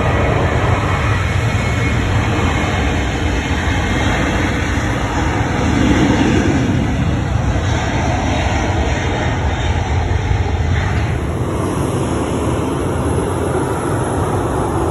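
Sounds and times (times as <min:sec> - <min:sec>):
deep rumble: 0:00.0 - 0:14.9
jet engine rush: 0:00.0 - 0:14.9.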